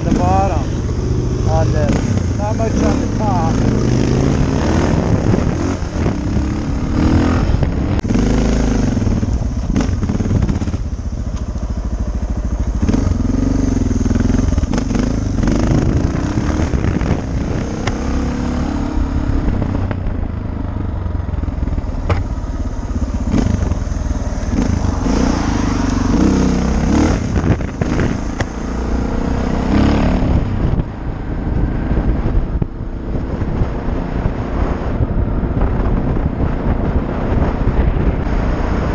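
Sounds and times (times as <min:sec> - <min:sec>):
motorcycle engine revving: 0:00.0 - 0:38.9
wind noise on microphone: 0:00.0 - 0:38.9.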